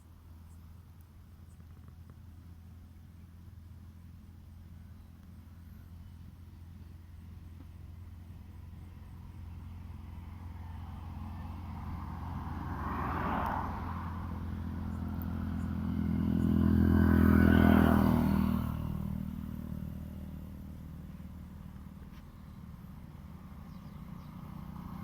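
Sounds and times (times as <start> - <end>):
vehicles passing by: 0.0 - 25.0.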